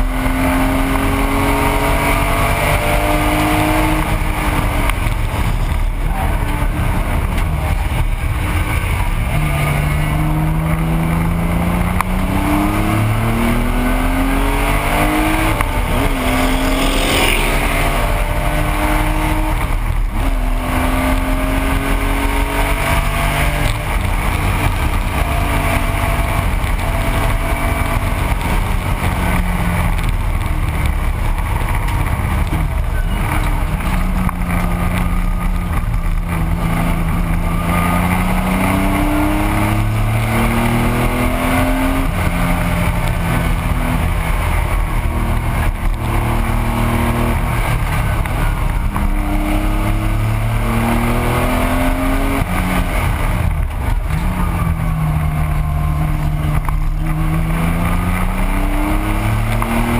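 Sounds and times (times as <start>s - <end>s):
race car engine revving: 0.0s - 59.9s
wind and road noise: 0.0s - 59.9s.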